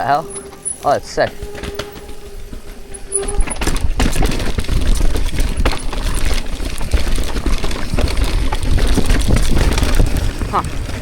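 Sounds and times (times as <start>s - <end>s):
bike rattling over bumps: 0.0s - 11.0s
tyres on dirt: 0.0s - 11.0s
wind rumble on microphone: 1.2s - 11.0s.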